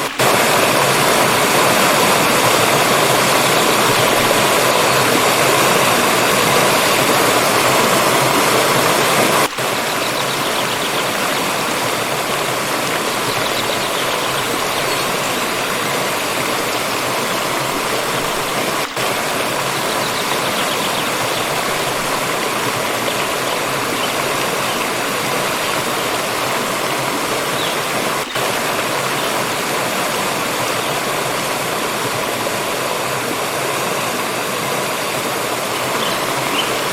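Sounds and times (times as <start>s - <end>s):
water stream flowing: 0.0s - 36.9s.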